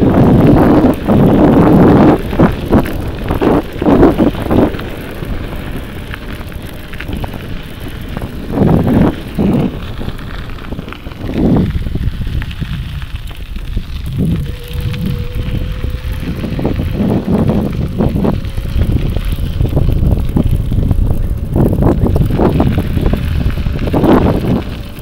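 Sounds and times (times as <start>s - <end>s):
steady low rumble: 0.0s - 25.0s
wind buffeting microphone: 0.0s - 25.0s.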